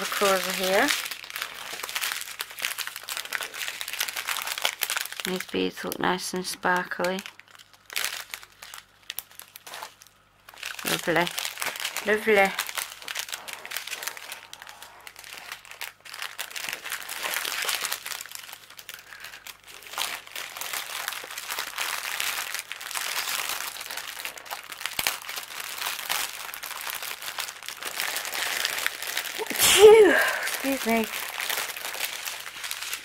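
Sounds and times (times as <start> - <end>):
plastic bags crinkling: 0.0 - 33.0.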